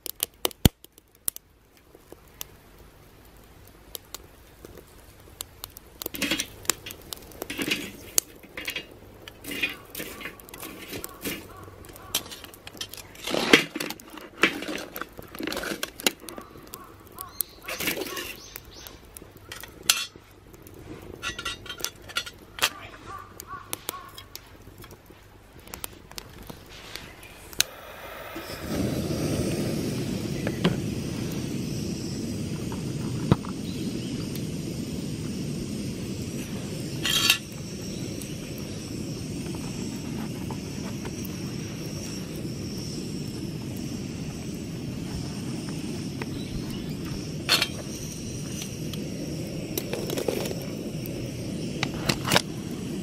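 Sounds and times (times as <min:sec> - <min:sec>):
gas burner flame rushing: 0:03.9 - 0:53.0.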